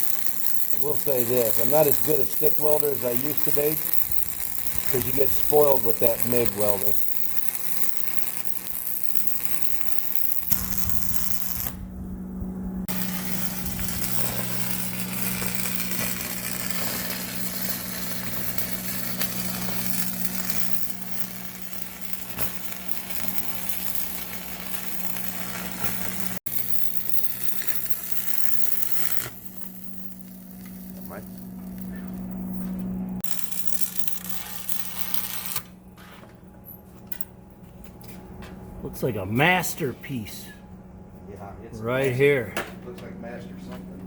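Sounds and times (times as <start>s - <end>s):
welding arc crackling: 0.0s - 11.8s, 12.5s - 36.1s
welding machine low hum: 0.0s - 41.4s.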